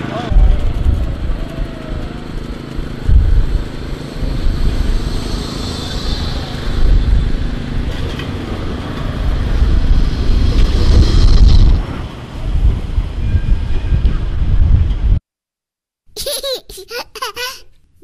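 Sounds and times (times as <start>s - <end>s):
tram passing with high whine: 0.0s - 15.0s
wind rumbling on microphone: 0.0s - 15.2s.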